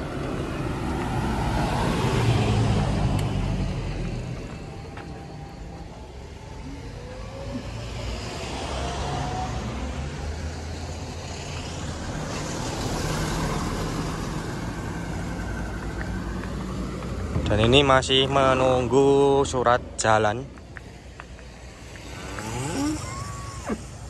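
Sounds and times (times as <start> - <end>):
road traffic hum: 0.0 - 24.0.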